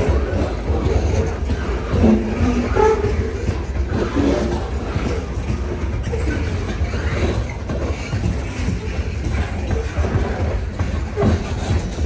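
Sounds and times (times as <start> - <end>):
wheel squeals: 0.0 - 12.0
wheels rumbling on track: 0.0 - 12.0.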